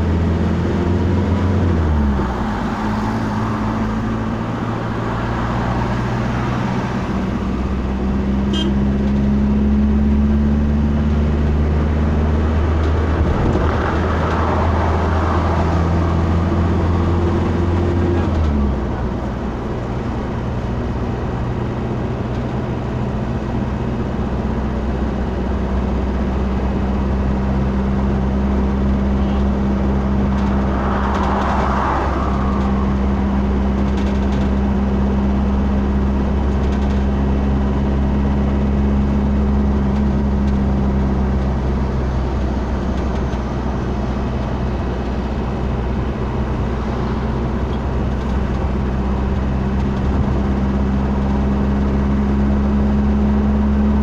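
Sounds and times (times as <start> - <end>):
car engine driving: 0.0 - 54.0
road noise: 0.0 - 54.0.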